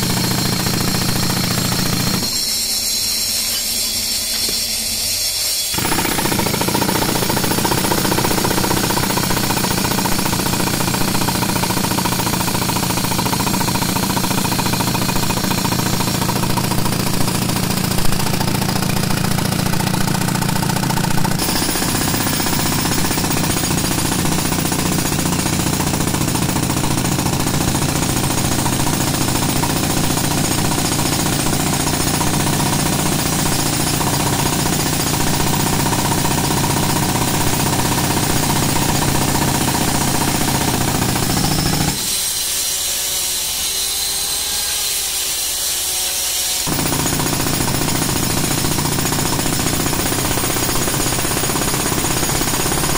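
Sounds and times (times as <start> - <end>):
jackhammer hammering concrete: 0.0 - 2.6, 5.7 - 42.6, 46.6 - 52.9.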